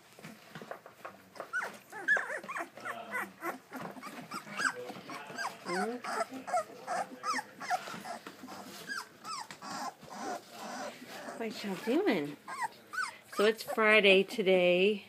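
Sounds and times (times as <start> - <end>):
puppies whimpering and squeaking: 1.3 - 14.0.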